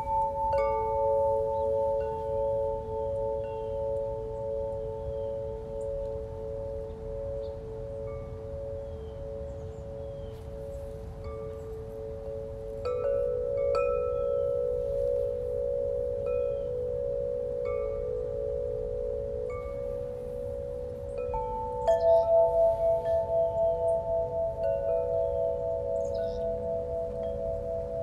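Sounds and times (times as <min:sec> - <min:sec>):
long wavering bell-like chime tones: 0:00.0 - 0:28.0.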